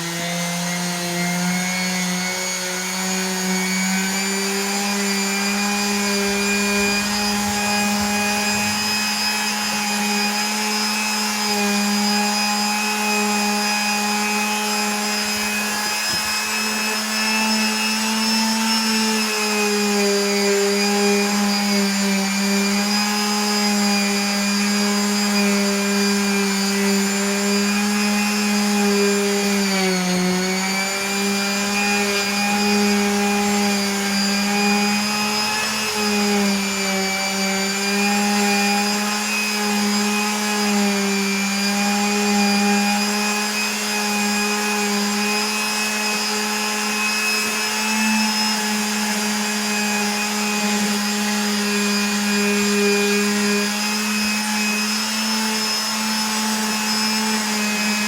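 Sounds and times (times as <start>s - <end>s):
small electric motor humming: 0.0s - 58.0s.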